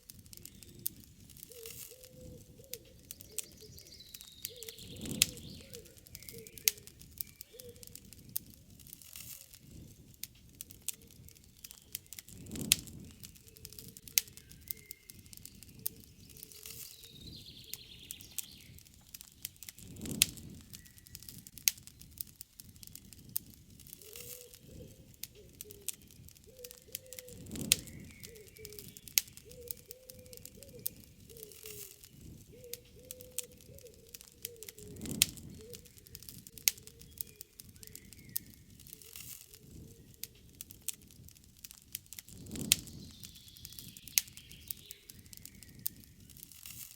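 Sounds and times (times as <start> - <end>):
campfire crackling and popping: 0.0 - 46.9
fire whooshing: 0.0 - 46.9
birds calling: 0.4 - 8.5, 10.4 - 19.6, 23.8 - 40.6, 42.9 - 46.5.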